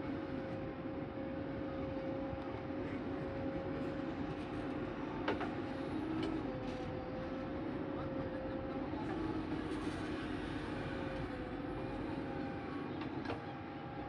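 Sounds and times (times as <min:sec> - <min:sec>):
machine whine: 0:00.0 - 0:14.0
diesel machinery rumbling: 0:00.1 - 0:14.0.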